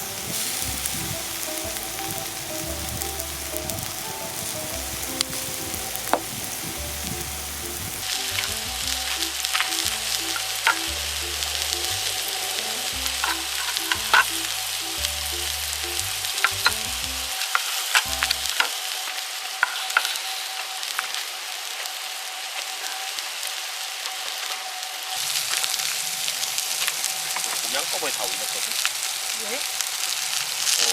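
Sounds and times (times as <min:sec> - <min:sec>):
meat sizzling on griddle: 0:00.0 - 0:30.9.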